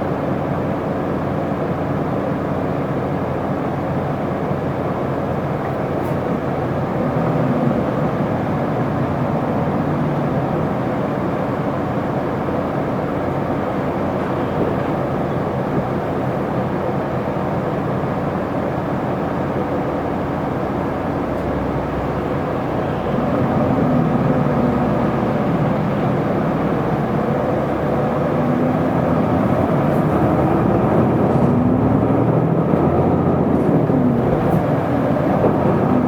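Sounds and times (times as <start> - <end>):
bus engine running: 0.0 - 36.0
road noise: 0.0 - 36.0.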